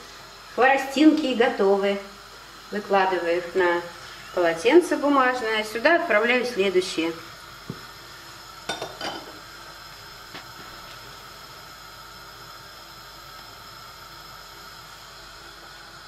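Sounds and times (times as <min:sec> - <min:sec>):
dough sizzling in hot oil: 0:00.0 - 0:16.0.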